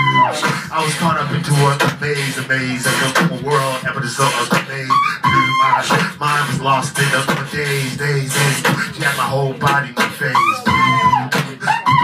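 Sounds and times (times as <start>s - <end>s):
beatboxing into a microphone: 0.0s - 12.0s.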